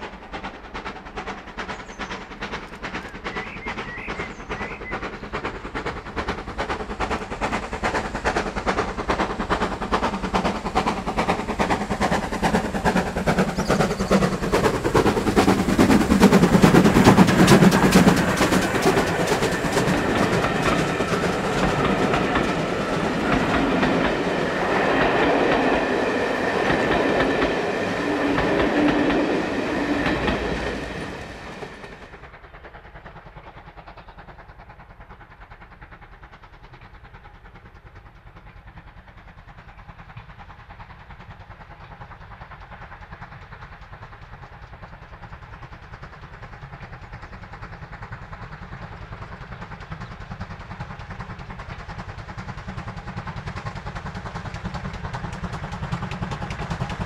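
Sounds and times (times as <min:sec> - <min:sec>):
steam train passing: 0:00.0 - 0:57.0
train wheels clattering: 0:00.0 - 0:57.0.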